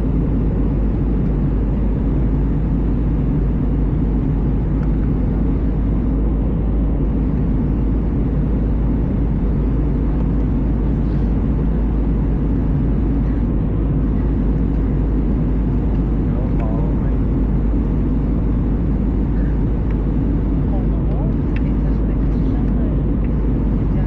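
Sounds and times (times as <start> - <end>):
airplane cabin engine roar: 0.0 - 24.0.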